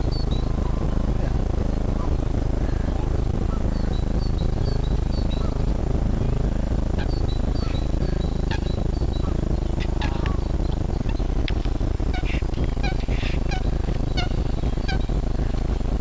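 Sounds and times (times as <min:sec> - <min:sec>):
small bird chirping: 0:00.0 - 0:01.3, 0:02.0 - 0:15.6
low rumble of wind or traffic: 0:00.0 - 0:16.0.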